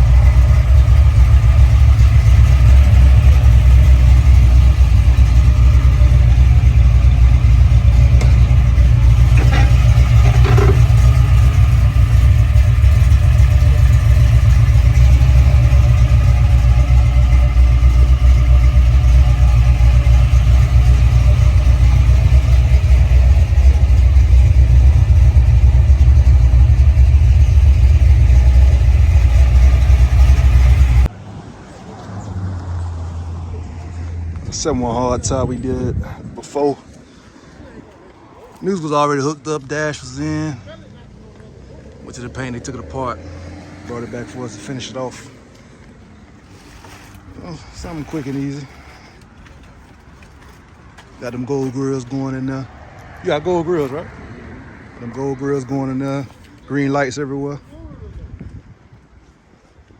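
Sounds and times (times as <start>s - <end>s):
car engine rumbling: 0.0s - 57.6s.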